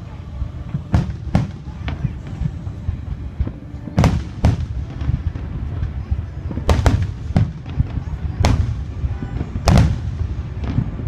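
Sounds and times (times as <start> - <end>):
continuous low rumble: 0.0 - 11.0
fireworks booming: 0.4 - 11.0.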